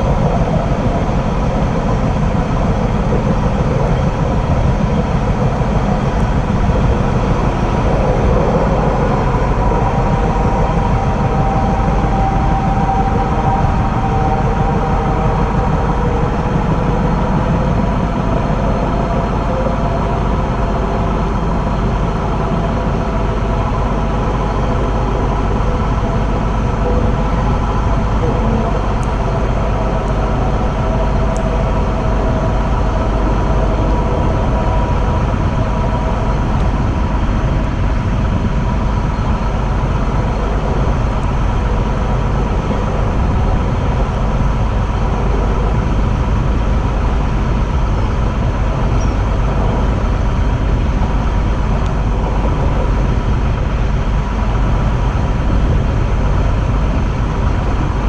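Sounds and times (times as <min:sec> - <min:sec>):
steady electric tones: 0:00.0 - 0:55.3
air noise: 0:00.0 - 0:58.0
train wheels rumbling on rail: 0:00.0 - 0:58.0.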